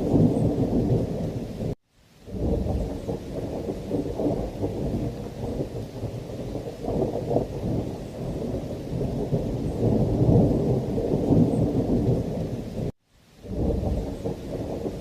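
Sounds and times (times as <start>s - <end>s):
rain: 0.0s - 15.0s
rolling thunder rumble: 0.0s - 15.0s.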